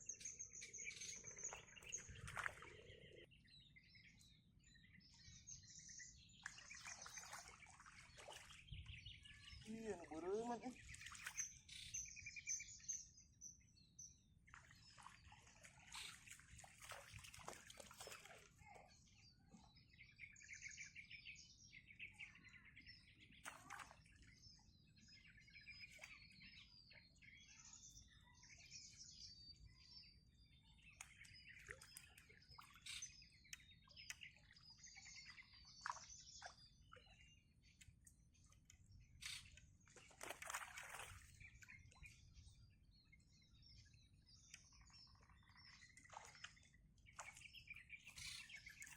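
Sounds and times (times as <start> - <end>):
small birds chirping and trilling: 0.0 - 48.9.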